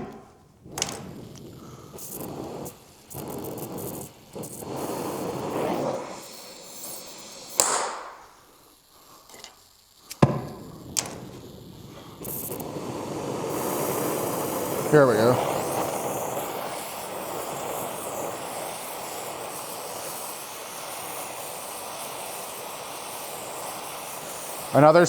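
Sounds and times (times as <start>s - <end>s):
gas torch hissing: 0.0s - 25.0s
torch sharp pops: 0.0s - 25.0s.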